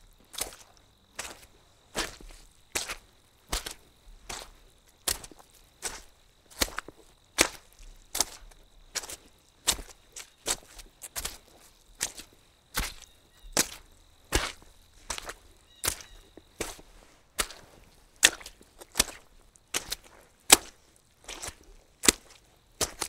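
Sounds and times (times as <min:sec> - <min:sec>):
footsteps on wet ground: 0:00.0 - 0:23.0.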